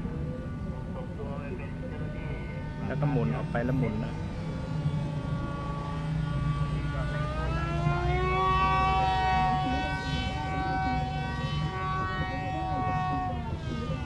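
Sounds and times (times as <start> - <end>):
model aircraft motor whine: 0.0 - 14.0.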